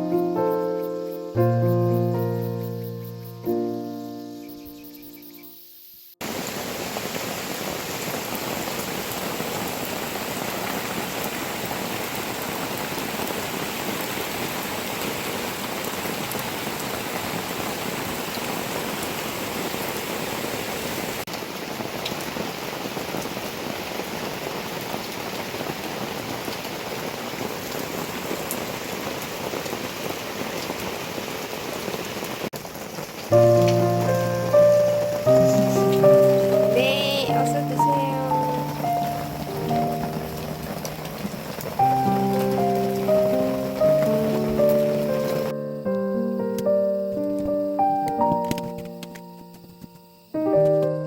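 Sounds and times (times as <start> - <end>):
steady rainfall: 0.0 - 4.4, 6.0 - 51.0.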